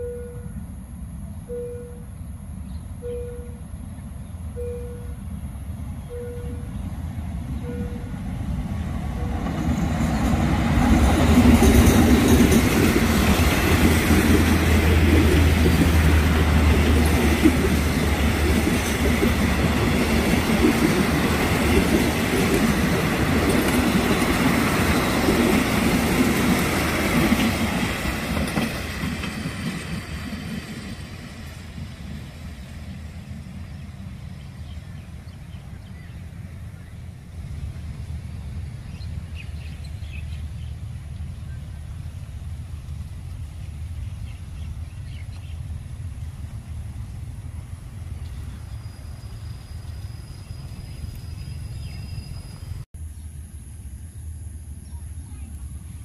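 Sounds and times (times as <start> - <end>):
locomotive engine hum: 0.0 - 52.9
train wheels on rails: 7.0 - 52.9.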